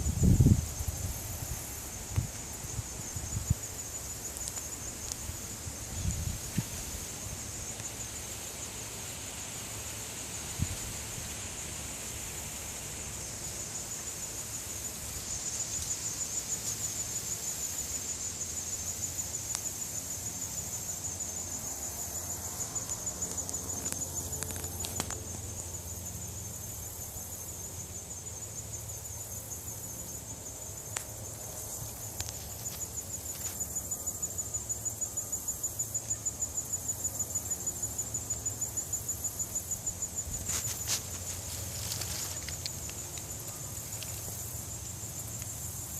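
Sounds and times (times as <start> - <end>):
insects chirping: 0.0 - 45.9.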